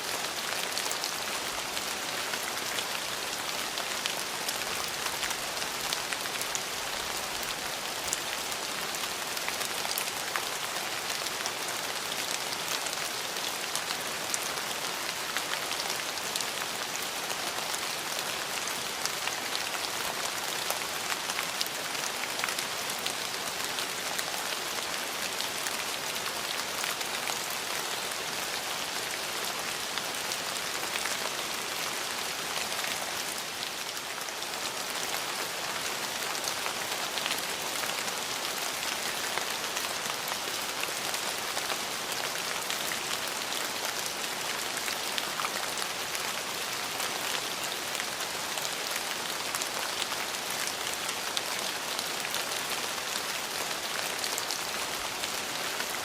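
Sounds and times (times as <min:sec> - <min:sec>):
rain pattering on surfaces: 0:00.0 - 0:56.0.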